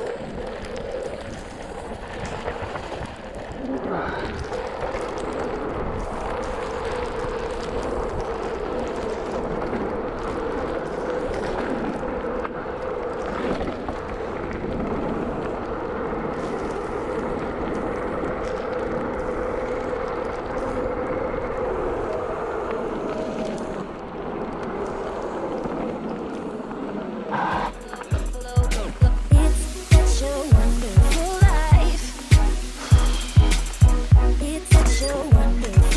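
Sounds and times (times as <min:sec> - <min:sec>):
wind buffeting microphone: 0:00.0 - 0:29.4.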